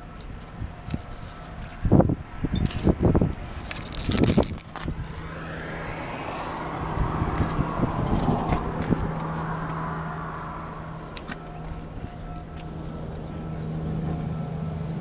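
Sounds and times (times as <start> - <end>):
road noise rushing: 0.0 - 15.0
vehicle engine idling: 0.0 - 15.0.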